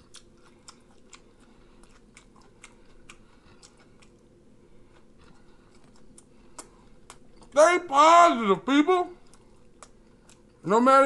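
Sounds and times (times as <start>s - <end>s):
faint chewing: 0.0s - 7.6s, 9.1s - 10.7s.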